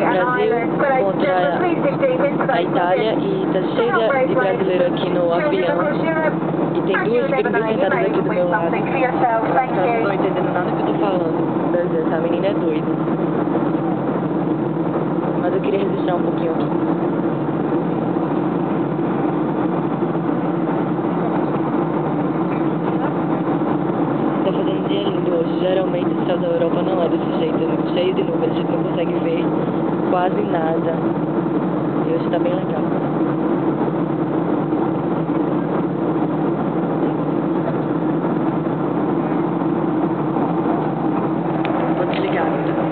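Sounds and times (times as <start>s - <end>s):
constant low hum: 0.0s - 42.9s
jet engine and airflow rush: 0.0s - 42.9s.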